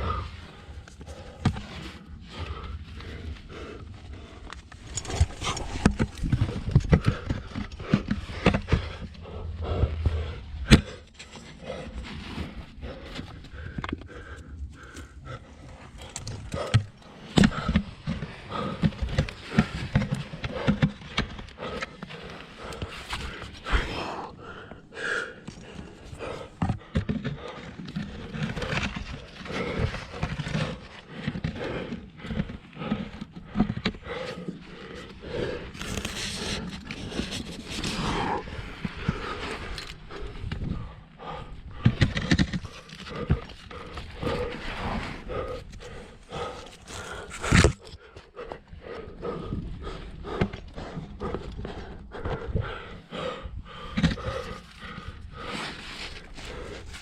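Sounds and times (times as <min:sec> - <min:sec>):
person panting: 0:00.0 - 0:57.0
gear scraping against rock: 0:00.4 - 0:24.8, 0:25.4 - 0:48.0.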